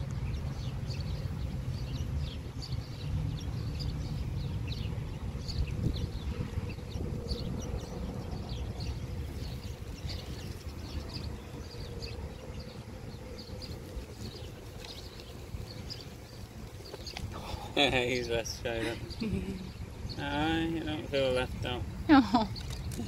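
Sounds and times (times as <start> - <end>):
faint hum: 0.0 - 23.0
low outdoor rumble: 0.0 - 23.0
small birds chirping: 0.0 - 23.0.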